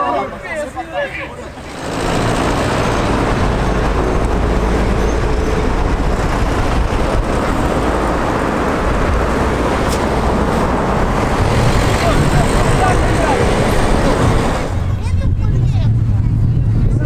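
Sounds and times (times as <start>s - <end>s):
vehicle engine and tyre rumble: 1.4s - 17.0s.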